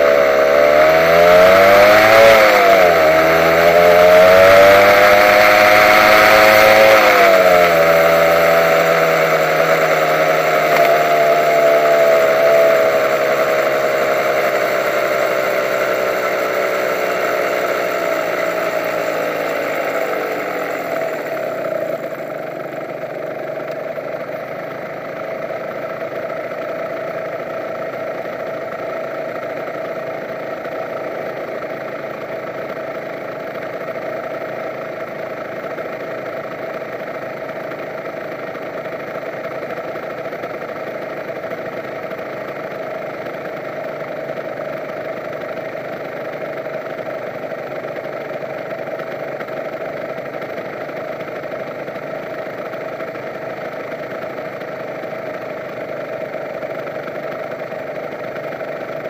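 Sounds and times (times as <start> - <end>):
motorcycle engine idling: 0.0 - 59.0
motorcycle engine revving: 0.0 - 59.0.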